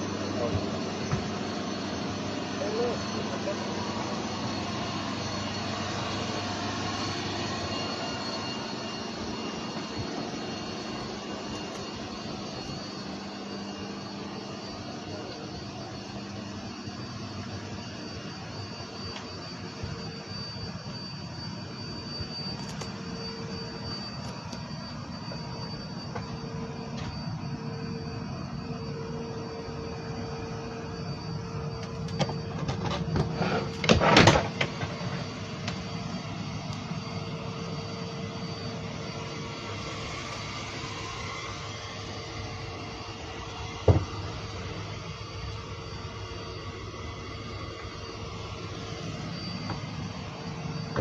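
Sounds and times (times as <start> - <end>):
aircraft engine noise: 0.0 - 51.0.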